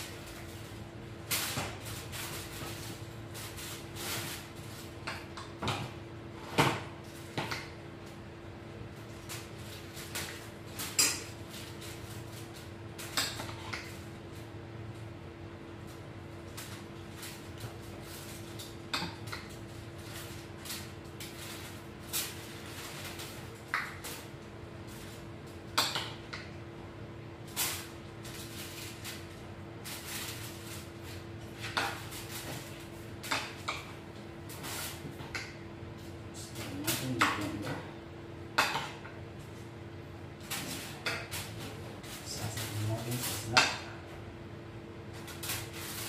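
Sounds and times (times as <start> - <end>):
aluminium foil crinkling: 0.0 - 5.6, 8.8 - 26.3, 27.4 - 37.7, 40.3 - 43.6, 45.1 - 46.0.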